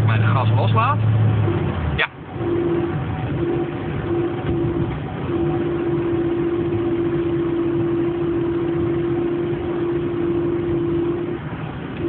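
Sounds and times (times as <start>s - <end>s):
car engine and road noise: 0.0s - 12.0s
steady whine: 0.0s - 12.0s.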